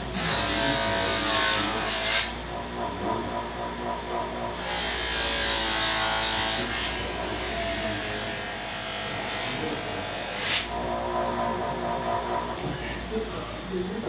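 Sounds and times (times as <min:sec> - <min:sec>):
buffing wheel hissing on metal: 0:00.0 - 0:14.0
grinder motor hum: 0:00.0 - 0:14.0.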